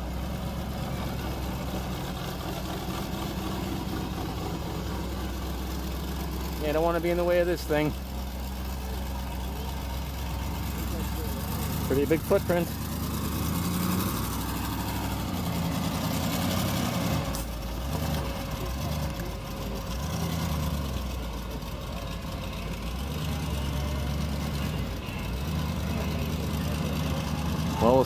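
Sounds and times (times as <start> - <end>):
truck engine running at low revs: 0.0 - 28.0.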